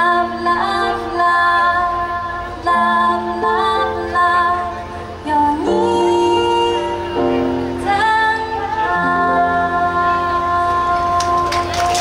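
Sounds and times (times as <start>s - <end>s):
woman singing a slow pop song: 0.0s - 12.0s.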